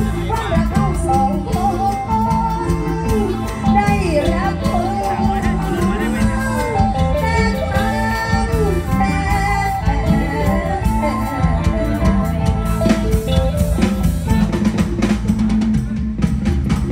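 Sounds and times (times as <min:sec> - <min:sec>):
live band music with steady beat: 0:00.0 - 0:16.9.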